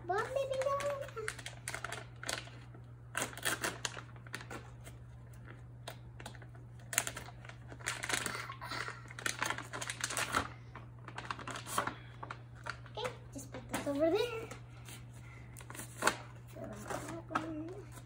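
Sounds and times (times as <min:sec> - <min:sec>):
steady low hum: 0:00.0 - 0:18.0
plastic packaging crinkling: 0:00.1 - 0:18.0.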